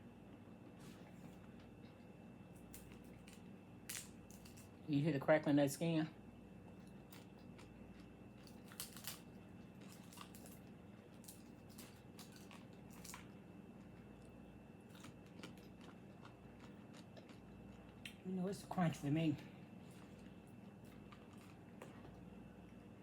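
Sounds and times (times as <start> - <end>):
chewing crispy chicken skin: 0.4 - 4.8, 6.6 - 18.2, 19.4 - 23.0.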